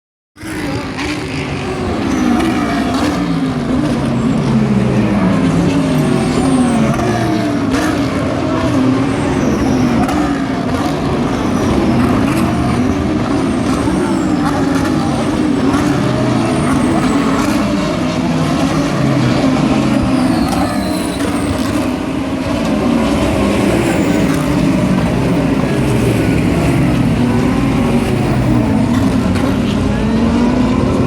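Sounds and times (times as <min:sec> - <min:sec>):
race car engines revving: 0:00.4 - 0:31.0.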